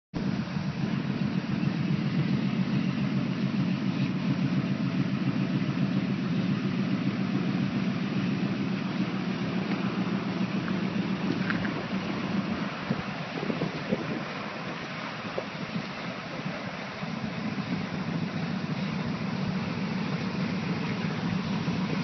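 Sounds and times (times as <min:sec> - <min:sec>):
pickup engine idling: 0:00.2 - 0:22.0.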